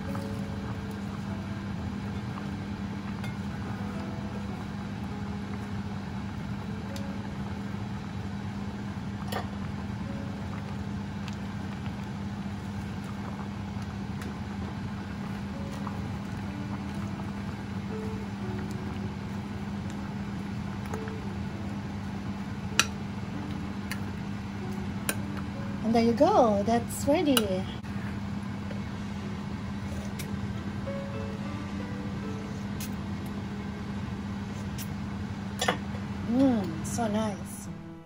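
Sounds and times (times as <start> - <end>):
low mechanical hum: 0.0 - 38.0
soft background music: 0.0 - 38.0.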